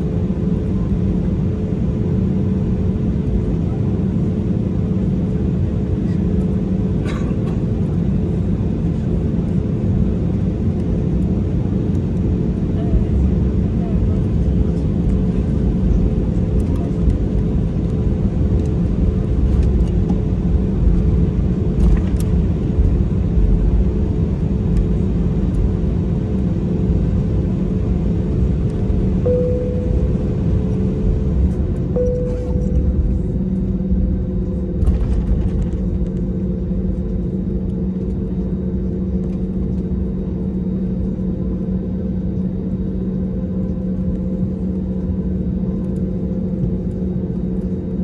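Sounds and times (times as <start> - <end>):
jet engines humming: 4.4 - 46.6.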